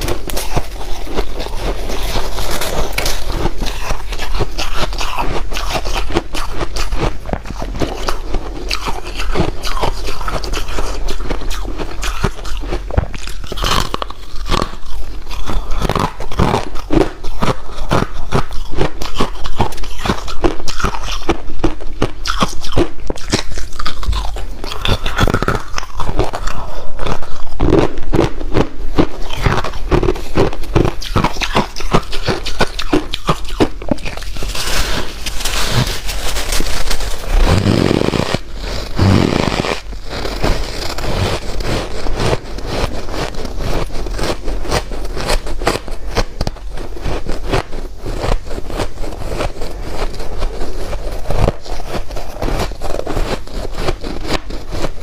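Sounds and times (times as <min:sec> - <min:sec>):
person chewing ice: 0:00.0 - 0:55.0.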